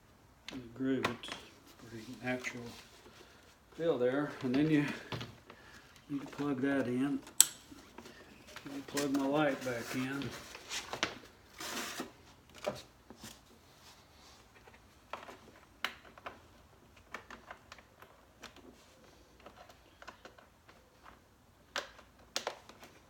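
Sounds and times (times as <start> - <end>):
plastic parts clicking and rustling: 0.5 - 12.9, 14.5 - 23.0.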